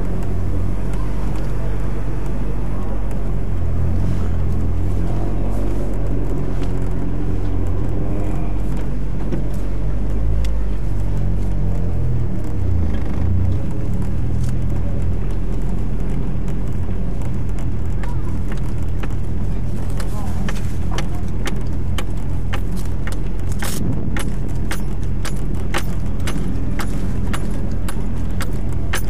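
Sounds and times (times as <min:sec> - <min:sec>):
car engine drone from cabin: 0:00.0 - 0:29.0.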